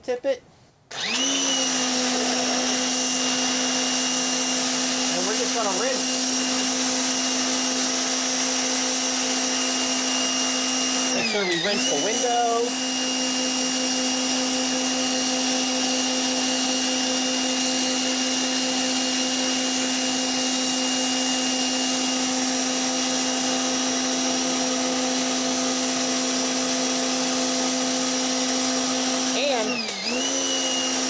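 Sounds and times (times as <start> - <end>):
pressure washer motor humming: 0.9 - 31.0.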